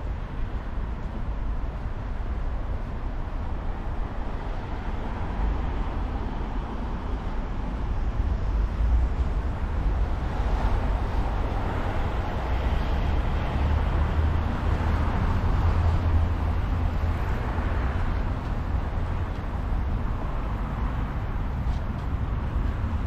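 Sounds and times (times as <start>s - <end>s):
low street rumble: 0.0s - 23.0s.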